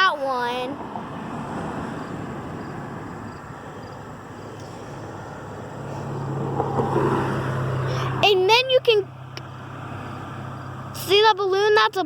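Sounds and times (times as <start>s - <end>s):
vehicle rumble: 0.0s - 12.0s
low engine hum: 0.5s - 12.0s.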